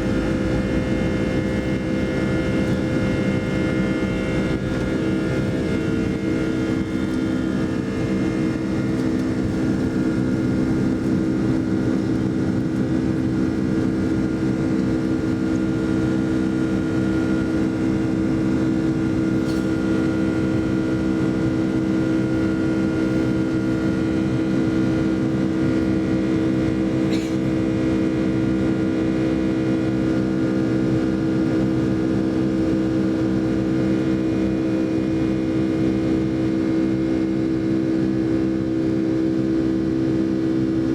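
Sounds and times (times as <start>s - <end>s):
airplane cabin jet engine drone: 0.0s - 40.9s.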